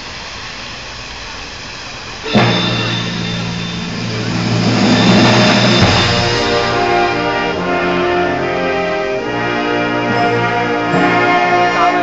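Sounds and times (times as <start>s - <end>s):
crowd noise: 1.3s - 12.0s
brass band playing chords: 2.3s - 12.0s.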